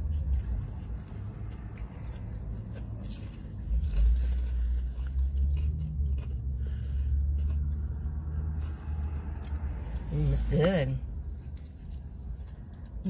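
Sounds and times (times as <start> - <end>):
chewing crispy fried chicken: 0.0 - 13.0
low rumble: 0.0 - 13.0.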